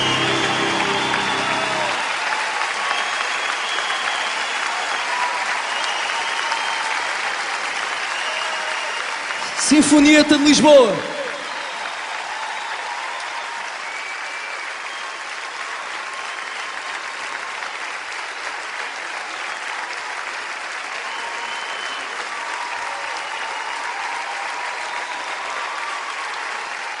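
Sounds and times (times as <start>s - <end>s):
audience applauding: 0.0s - 27.0s.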